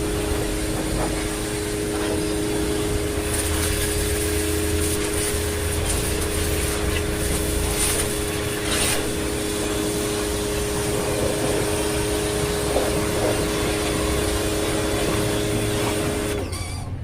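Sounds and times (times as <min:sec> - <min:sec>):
water spray hissing: 0:00.0 - 0:16.5
pressure washer motor humming: 0:00.0 - 0:16.9.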